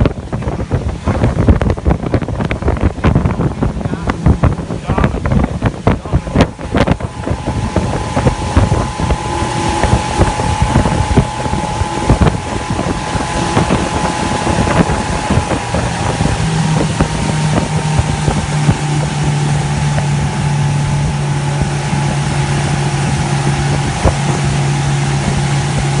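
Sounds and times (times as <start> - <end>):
engine whine: 0.0 - 26.0
low hum: 0.0 - 26.0
outboard motor drone: 0.0 - 26.0
wind buffeting microphone: 0.0 - 26.0.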